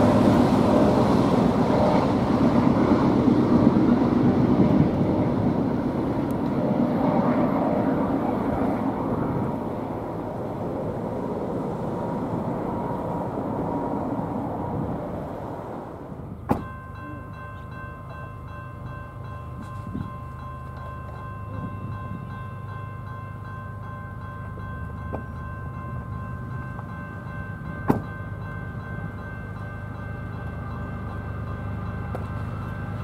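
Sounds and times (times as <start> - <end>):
train rolling on tracks: 0.0 - 33.0.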